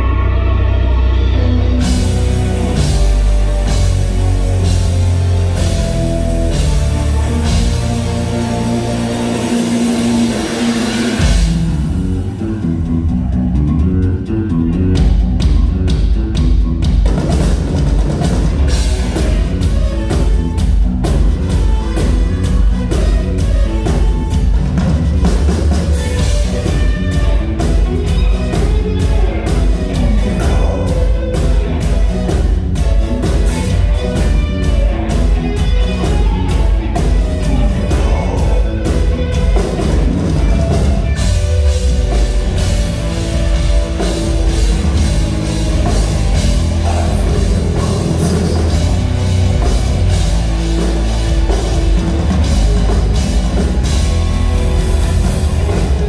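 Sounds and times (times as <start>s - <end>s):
electric guitars: 0.0s - 56.0s
drum kit: 1.2s - 56.0s.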